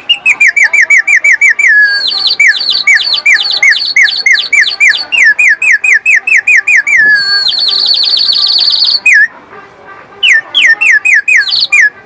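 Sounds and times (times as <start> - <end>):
bird chirping: 0.0 - 9.3, 10.2 - 12.0.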